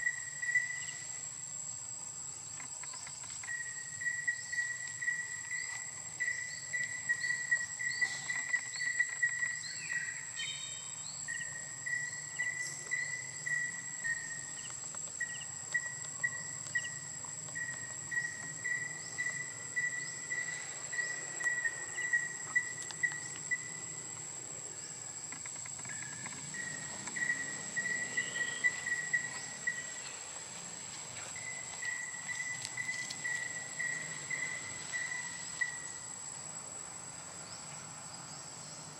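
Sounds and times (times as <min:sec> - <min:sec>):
high insect whine: 0:00.0 - 0:38.9
insect chirp pulsing: 0:00.0 - 0:38.9.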